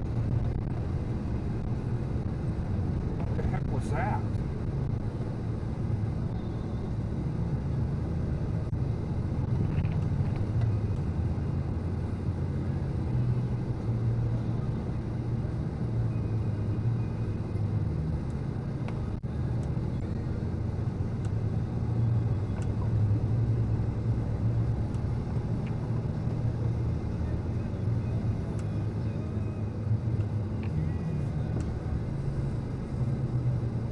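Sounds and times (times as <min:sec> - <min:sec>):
engine rumbling: 0:00.0 - 0:33.9.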